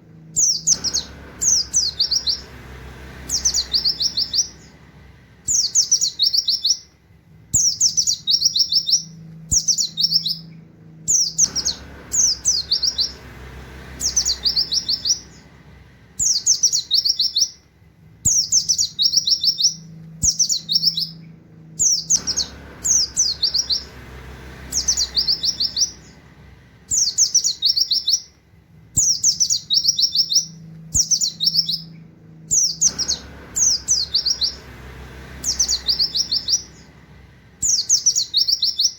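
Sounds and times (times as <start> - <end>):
bird singing high wit notes: 0.3 - 2.5, 3.2 - 6.9, 7.6 - 13.2, 14.0 - 15.6, 16.2 - 17.6, 18.3 - 24.0, 24.6 - 28.4, 29.0 - 34.7, 35.4 - 37.0, 37.6 - 38.9.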